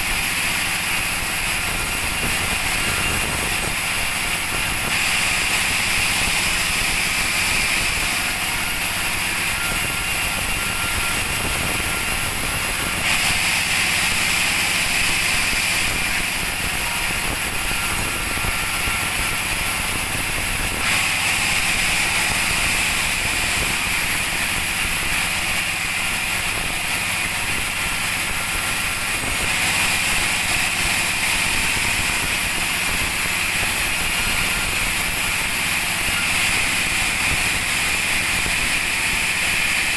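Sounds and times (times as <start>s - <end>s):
bandsaw hissing whine: 0.0s - 39.9s.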